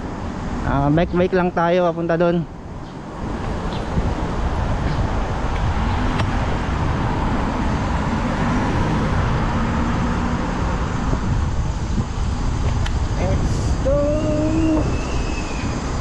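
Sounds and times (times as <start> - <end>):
rumble of passing cars: 0.0 - 16.0
vehicle engine hum: 0.0 - 16.0.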